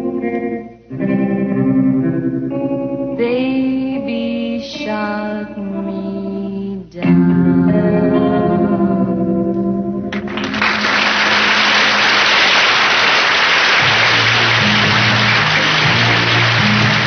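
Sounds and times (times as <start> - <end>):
guitar with chorus and echo: 0.0 - 13.2, 13.8 - 17.0.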